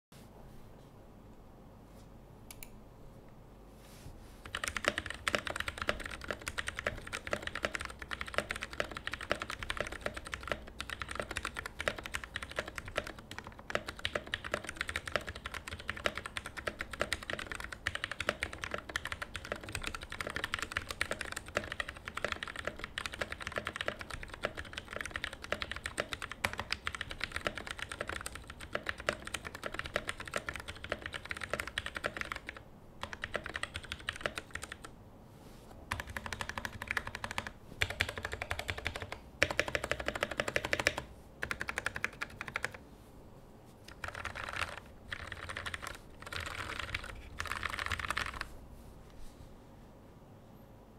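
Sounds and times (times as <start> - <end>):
mechanical keyboard typing: 4.4 - 34.9, 35.9 - 42.8, 43.9 - 48.5.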